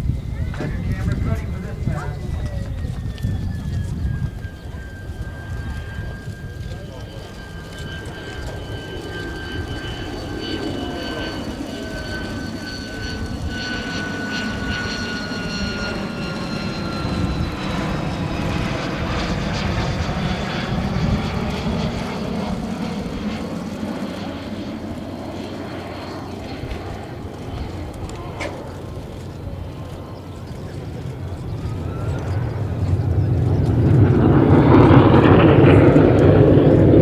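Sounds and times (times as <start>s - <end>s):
jet engine whine: 0.0s - 37.0s
jet roar of plane flyby: 0.0s - 37.0s.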